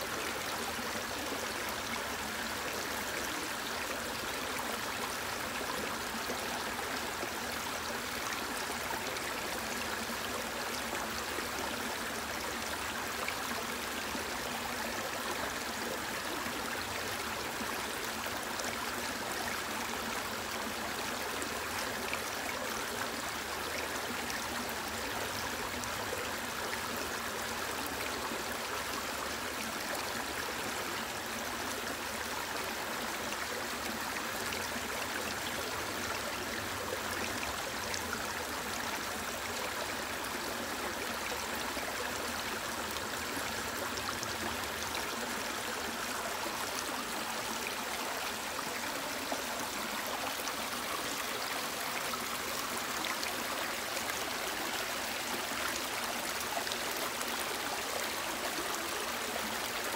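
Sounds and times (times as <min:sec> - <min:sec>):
stream running over stones: 0:00.0 - 0:59.9.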